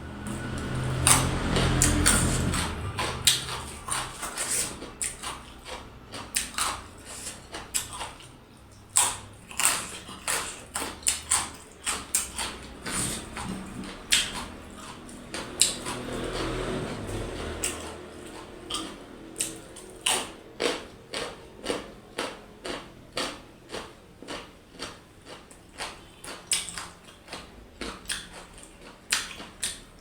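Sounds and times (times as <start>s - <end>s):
mouth chewing and smacking: 0.3s - 30.0s.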